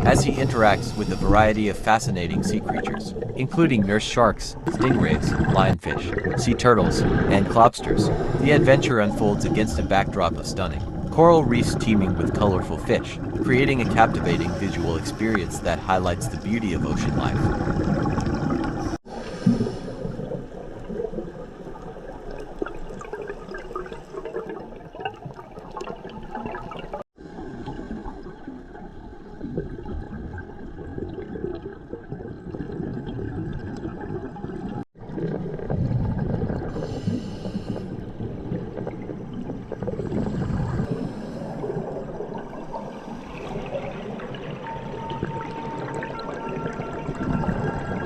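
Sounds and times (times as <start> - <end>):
underwater gurgling water: 0.0 - 48.0.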